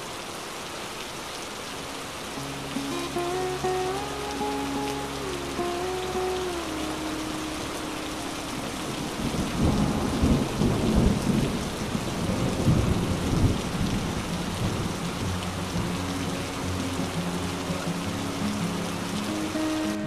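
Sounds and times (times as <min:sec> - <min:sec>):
heavy rain on street: 0:00.0 - 0:20.0.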